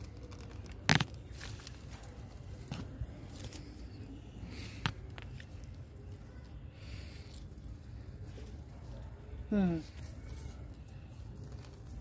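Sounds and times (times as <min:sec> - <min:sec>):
hand rustling in soil: 0:00.0 - 0:12.0.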